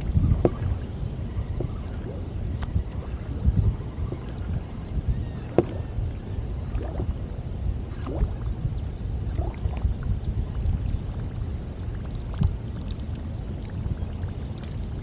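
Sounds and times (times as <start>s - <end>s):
low rumble: 0.0s - 15.0s
water lapping against kayak hull: 0.0s - 15.0s.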